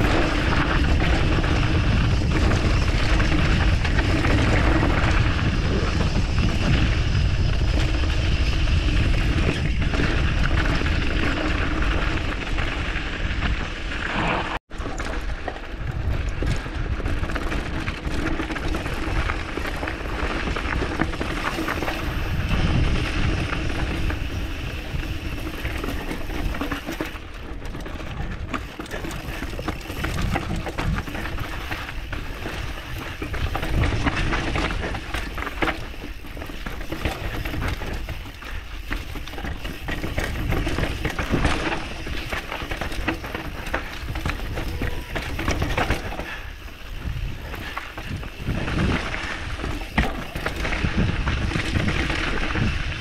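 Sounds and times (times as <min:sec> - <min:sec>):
bike tyre and trail rattle: 0:00.0 - 0:53.0
wind noise on microphone: 0:00.0 - 0:53.0.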